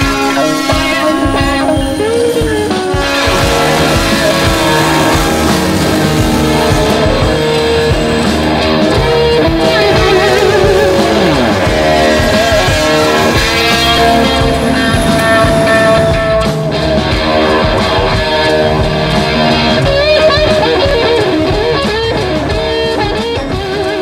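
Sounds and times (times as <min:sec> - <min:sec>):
rock music led by guitar: 0:00.0 - 0:24.0.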